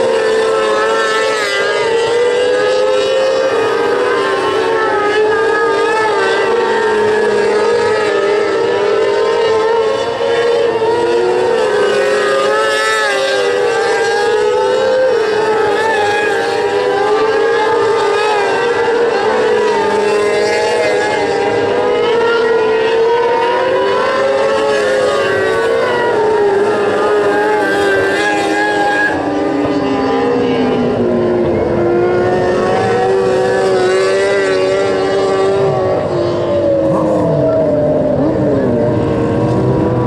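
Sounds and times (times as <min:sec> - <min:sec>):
race car engines: 0:00.0 - 0:40.0.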